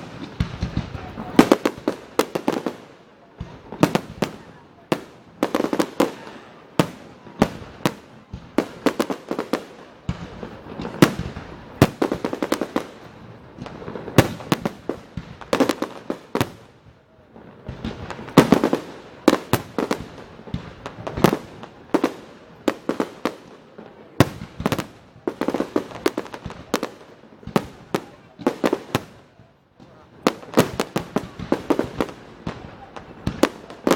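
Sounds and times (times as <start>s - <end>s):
crackling fireworks reports: 0.0s - 33.9s
fireworks bursting: 0.0s - 33.9s.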